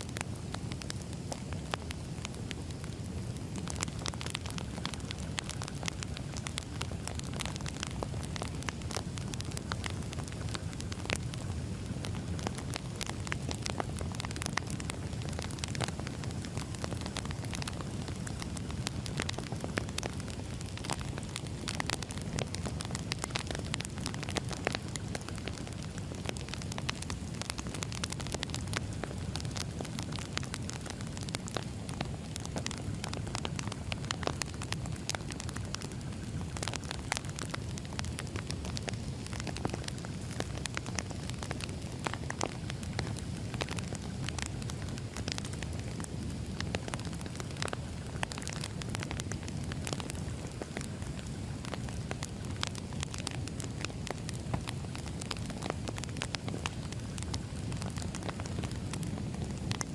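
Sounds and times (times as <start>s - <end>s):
firewood crackling and popping: 0.0s - 59.9s
low rumble of flames: 0.0s - 59.9s.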